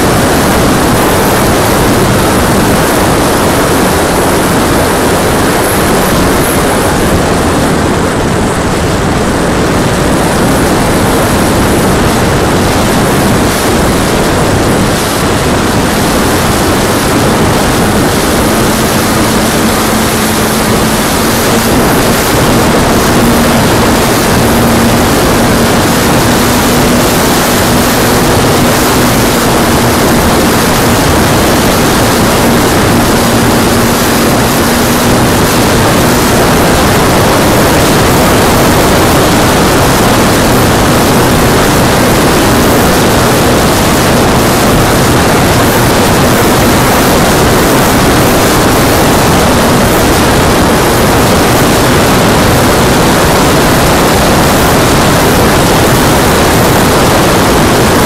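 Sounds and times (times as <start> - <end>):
propeller and wind noise: 0.0 - 58.0.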